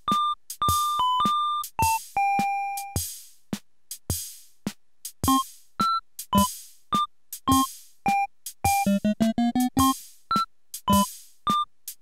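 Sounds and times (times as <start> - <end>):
drum machine beat: 0.0 - 12.0.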